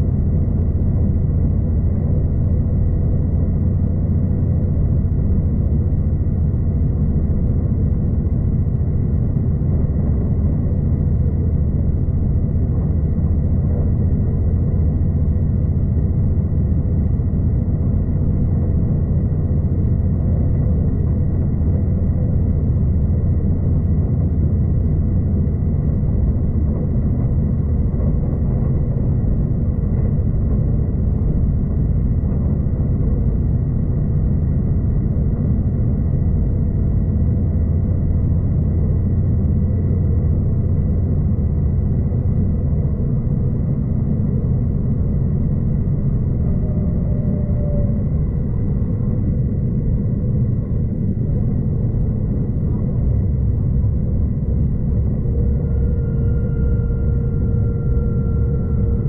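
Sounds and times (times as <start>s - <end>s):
faint high whine: 0.0s - 59.0s
train rumble inside carriage: 0.0s - 59.0s.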